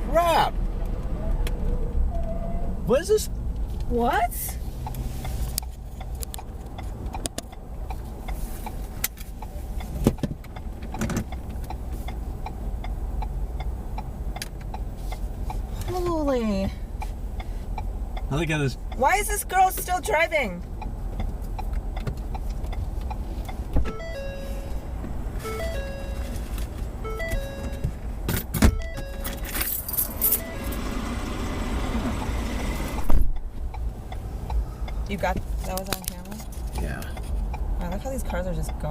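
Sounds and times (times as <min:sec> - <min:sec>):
road and engine rumble in car: 0:00.0 - 0:38.9.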